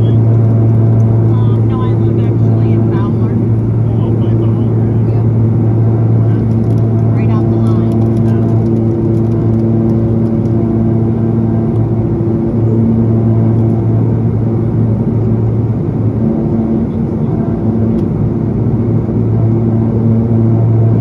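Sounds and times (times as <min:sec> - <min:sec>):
turboprop cabin drone: 0:00.0 - 0:21.0.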